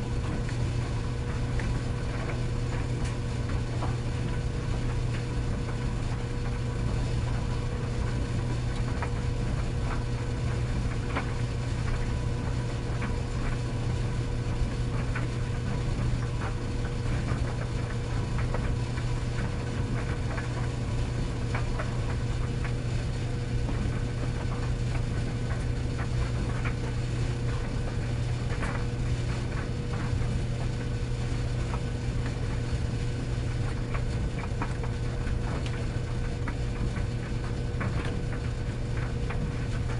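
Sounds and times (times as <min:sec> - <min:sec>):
tumble dryer humming: 0:00.0 - 0:39.9.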